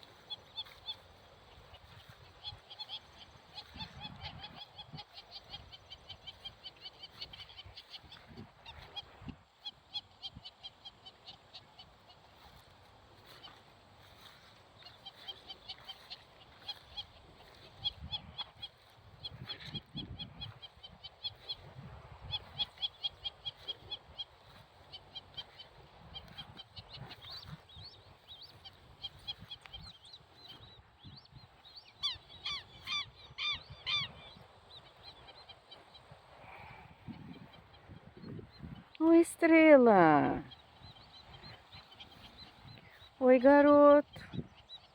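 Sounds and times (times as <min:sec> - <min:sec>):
loud bird calls: 0:00.0 - 0:38.9, 0:40.3 - 0:44.9
birds chirping: 0:00.0 - 0:44.9.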